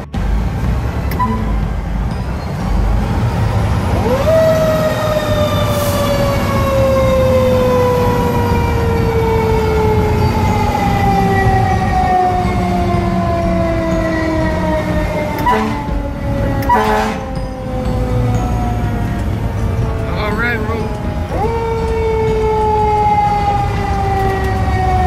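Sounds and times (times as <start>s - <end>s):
truck engine rumble: 0.0s - 25.0s
fire engine siren winding: 0.8s - 1.9s, 3.3s - 25.0s.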